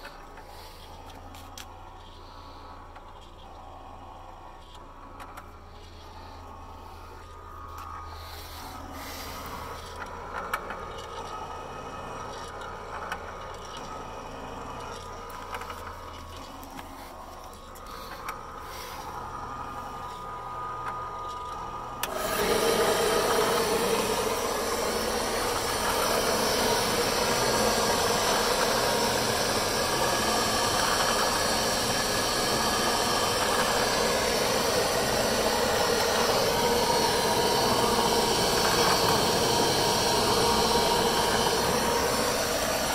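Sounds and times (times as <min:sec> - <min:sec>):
electric motor and belt drive: 0:00.0 - 0:42.9.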